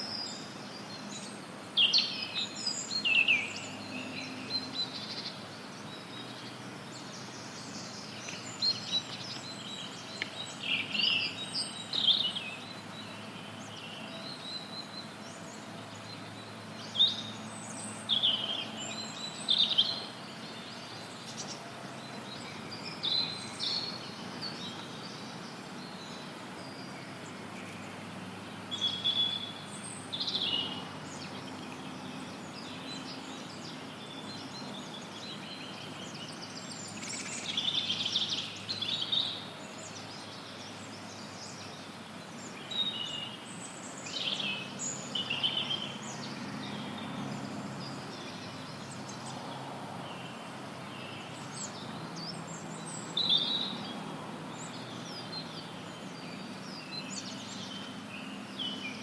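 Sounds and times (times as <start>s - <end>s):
birds chirping and trilling: 0.0s - 59.0s
white noise hiss: 0.0s - 59.0s.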